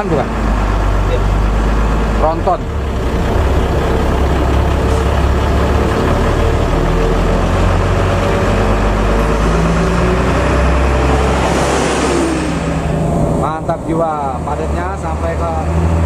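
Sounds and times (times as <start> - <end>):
bus engine droning: 0.0 - 16.0.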